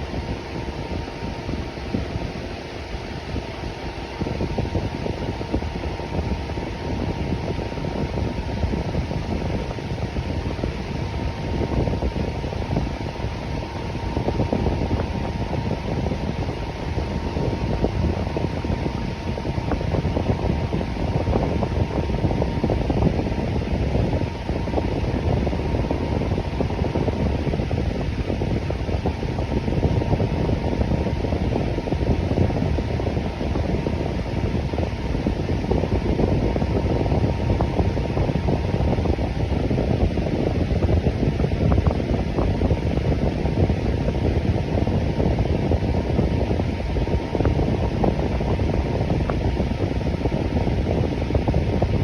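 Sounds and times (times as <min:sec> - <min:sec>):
electric fan running: 0:00.0 - 0:52.0
faint steady whine: 0:00.0 - 0:52.0.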